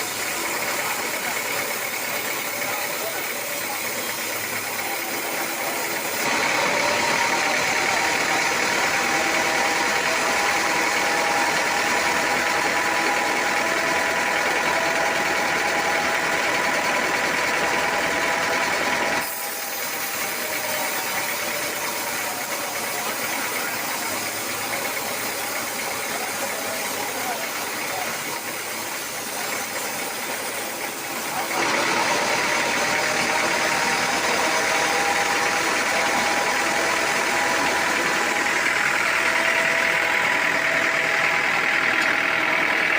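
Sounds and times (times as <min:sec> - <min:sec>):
machine whine: 0:00.0 - 0:42.9
sawmill machinery running: 0:00.0 - 0:42.9.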